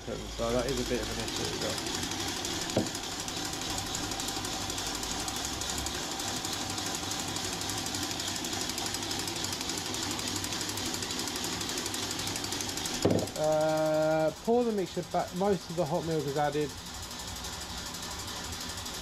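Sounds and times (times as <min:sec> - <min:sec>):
whisk rattling against bowl: 0:00.2 - 0:16.8.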